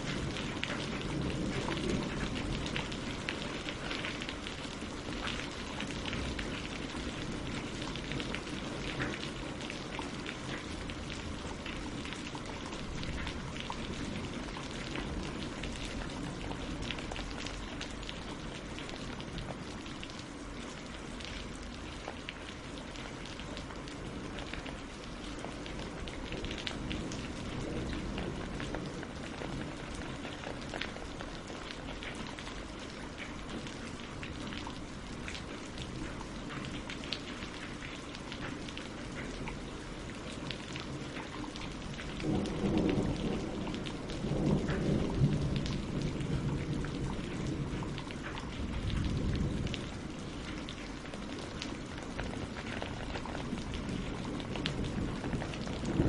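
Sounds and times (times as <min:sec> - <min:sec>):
rain on leaves and lake: 0:00.0 - 0:56.0.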